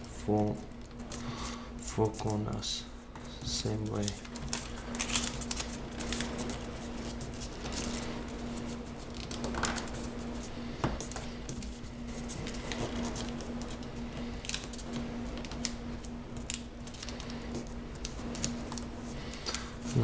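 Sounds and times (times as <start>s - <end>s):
paper crinkling and rustling: 3.2s - 20.0s.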